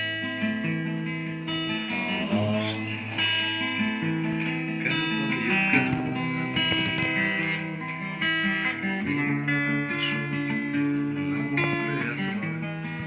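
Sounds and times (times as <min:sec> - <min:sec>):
guitar chords: 0:00.0 - 0:13.0.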